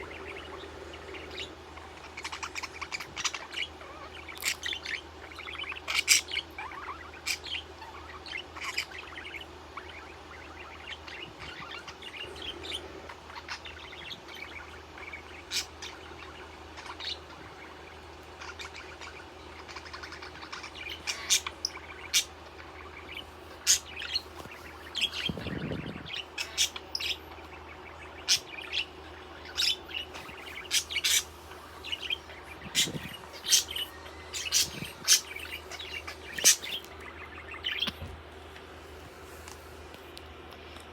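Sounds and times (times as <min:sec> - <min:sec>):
budgerigar chirping: 0:00.0 - 0:17.8, 0:18.4 - 0:38.0.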